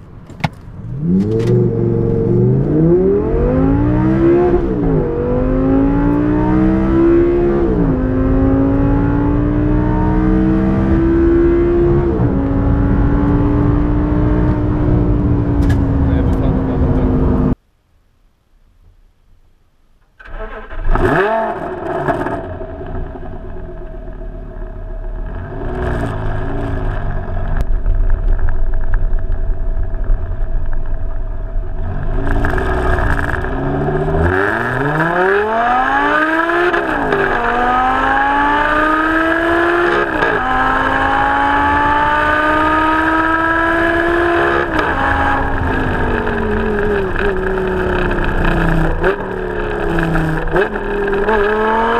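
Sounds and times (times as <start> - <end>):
car engine revving and accelerating: 0.8 - 17.6, 20.6 - 27.6, 31.7 - 51.9.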